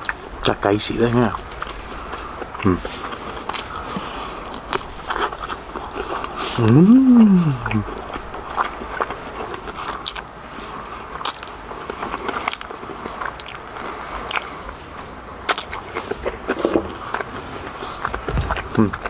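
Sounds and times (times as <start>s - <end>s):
chewing and biting crispy food: 0.0s - 19.0s.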